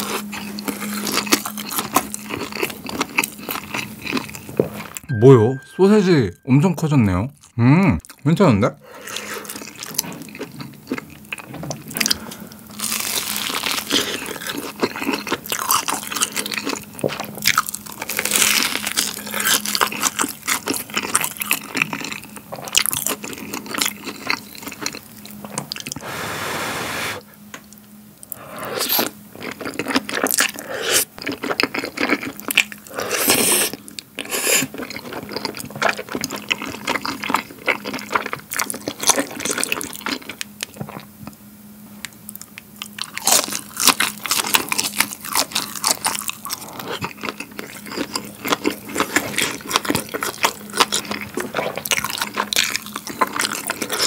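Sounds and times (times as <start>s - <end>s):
crunching bites and chewing: 0.0s - 5.1s, 9.1s - 26.0s, 28.2s - 41.4s, 42.0s - 54.0s.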